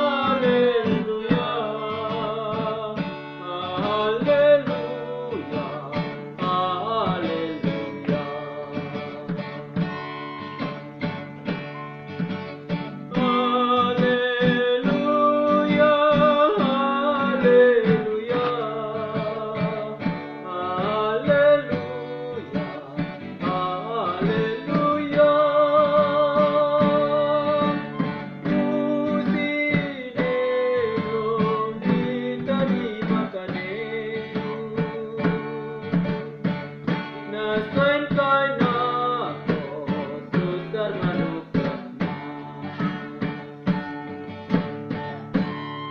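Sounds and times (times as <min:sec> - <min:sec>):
person singing slow song: 0:00.0 - 0:12.0, 0:12.6 - 0:43.7
plucked acoustic guitar: 0:00.0 - 0:45.9.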